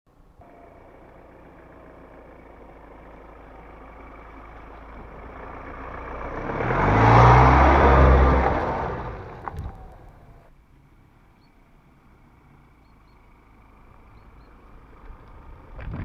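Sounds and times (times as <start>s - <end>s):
pickup truck engine rumble: 0.1s - 16.0s
tyres on dirt track: 0.1s - 16.0s.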